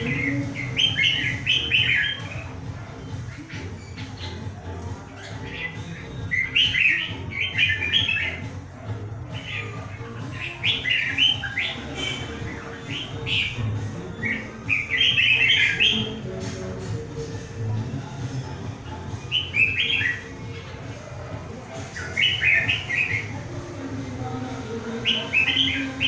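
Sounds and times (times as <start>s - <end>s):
bulbuls singing: 0.0s - 26.0s.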